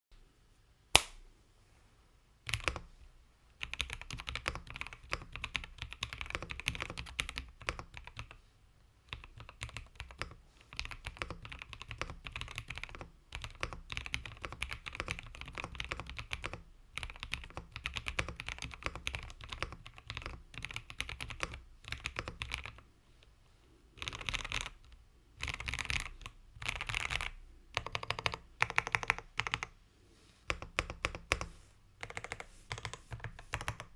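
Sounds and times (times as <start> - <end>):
mechanical keyboard typing: 2.5 - 2.9, 3.6 - 8.4, 9.1 - 22.8, 24.0 - 29.7, 30.5 - 33.9.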